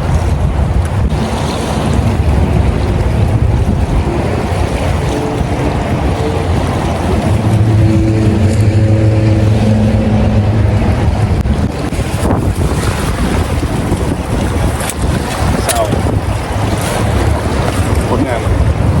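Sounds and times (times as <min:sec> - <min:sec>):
engine hum: 0:00.0 - 0:19.0
wind rumbling on microphone: 0:00.0 - 0:19.0.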